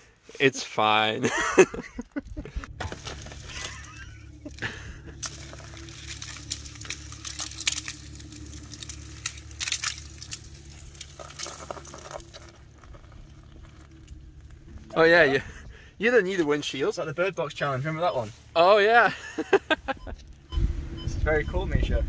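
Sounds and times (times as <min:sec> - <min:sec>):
ice crackling and crunching: 0:00.1 - 0:20.3
steady low hum: 0:01.3 - 0:22.0.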